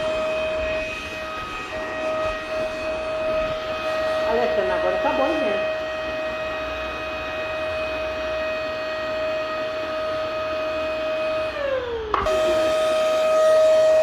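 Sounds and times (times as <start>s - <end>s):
vacuum cleaner motor whining: 0.0s - 14.0s.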